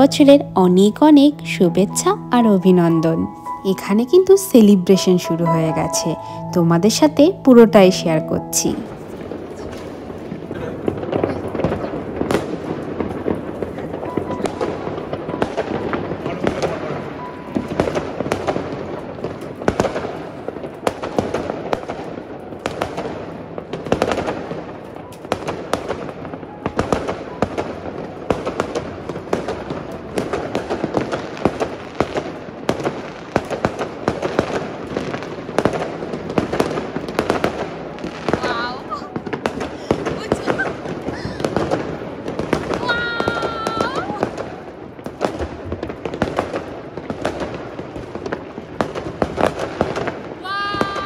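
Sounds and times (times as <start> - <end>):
fireworks crackling: 0.0 - 51.0.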